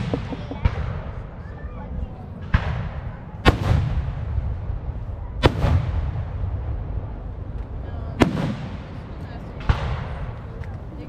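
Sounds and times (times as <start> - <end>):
firework shells booming: 0.0 - 1.4, 2.4 - 11.0.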